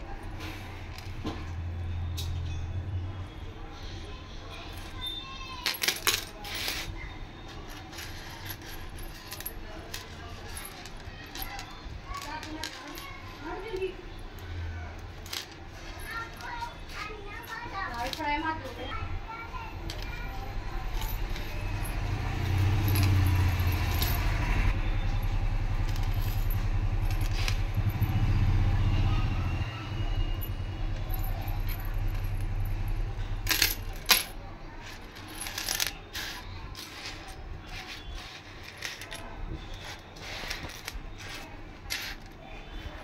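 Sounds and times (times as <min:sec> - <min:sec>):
metal chains clinking: 0:04.6 - 0:18.9, 0:19.8 - 0:43.0.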